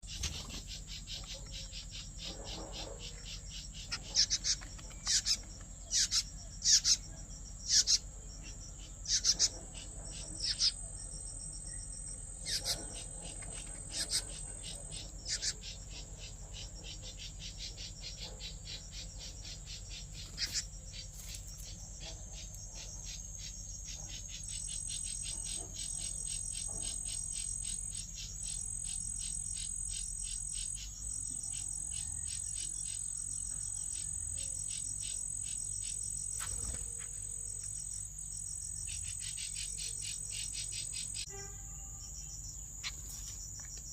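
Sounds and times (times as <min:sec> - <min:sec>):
sharp bird chirps: 0:00.0 - 0:43.8
insects trilling: 0:00.0 - 0:43.9.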